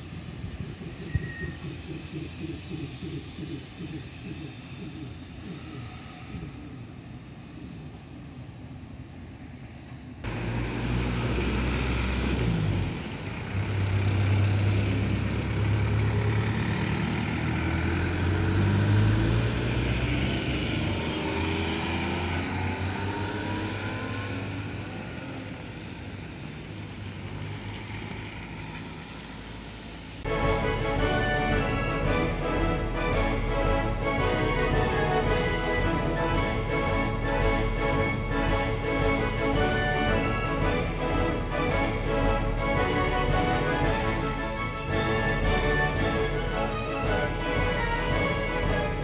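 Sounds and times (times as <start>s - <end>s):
electric train rolling: 0.0s - 23.2s, 30.3s - 49.0s
vehicle whine pulling away: 0.0s - 49.0s
cars passing on wet road: 9.6s - 49.0s.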